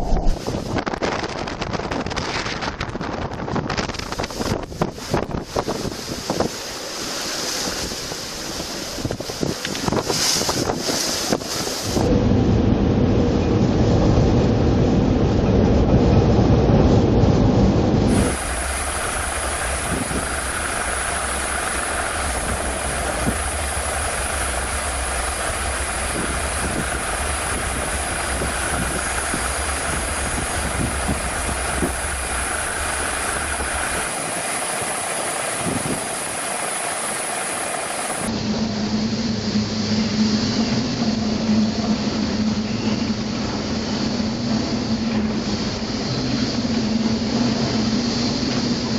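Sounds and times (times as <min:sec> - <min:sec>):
steady hiss: 0:00.0 - 0:12.1, 0:18.0 - 0:48.9
loud low rumbling rush: 0:00.0 - 0:48.9
low hum: 0:00.0 - 0:48.9.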